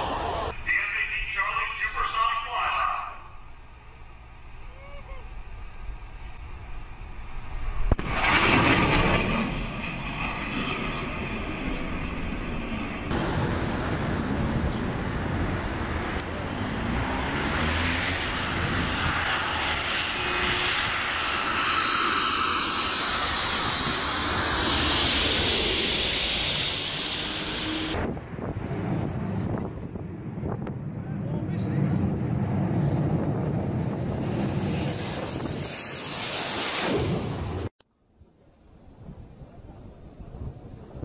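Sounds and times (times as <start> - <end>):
jet flying past: 0.0 - 37.7
large jet flying low overhead: 0.0 - 37.8.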